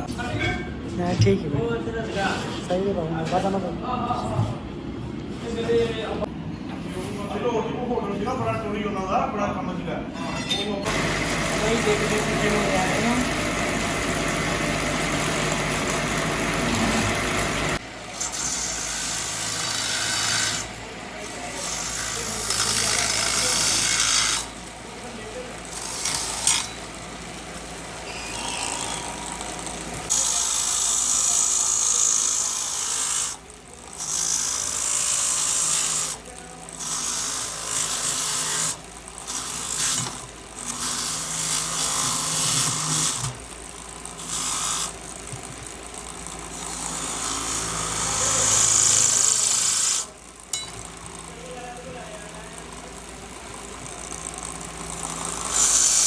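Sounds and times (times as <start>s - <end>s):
power tool grinding: 10.8s - 56.0s.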